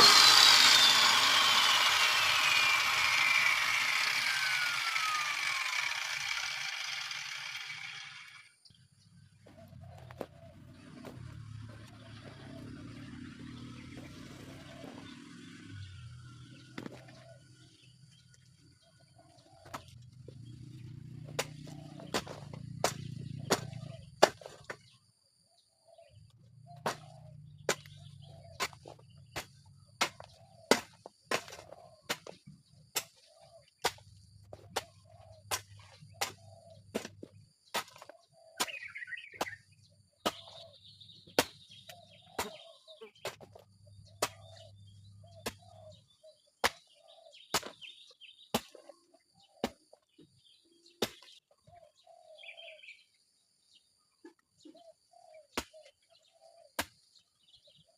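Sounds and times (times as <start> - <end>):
birds chirping faintly: 8.4 - 57.9.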